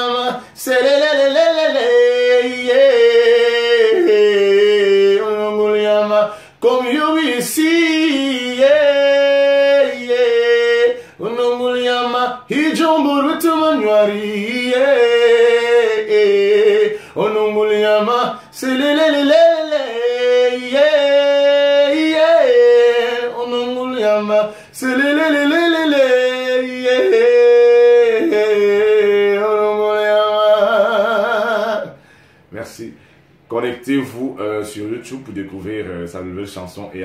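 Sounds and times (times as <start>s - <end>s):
man singing unaccompanied: 0.0s - 36.6s.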